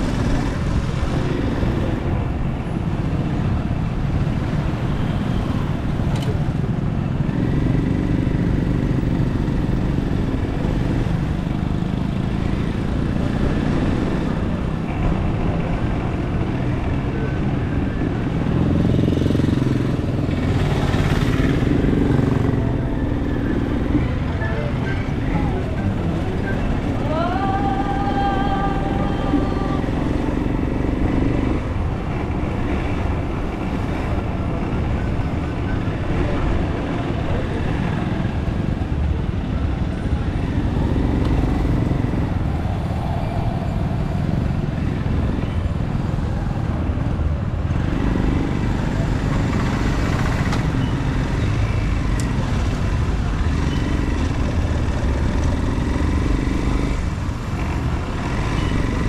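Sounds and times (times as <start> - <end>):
motorcycle running: 0.0 - 59.0
road and wind noise: 0.0 - 59.0.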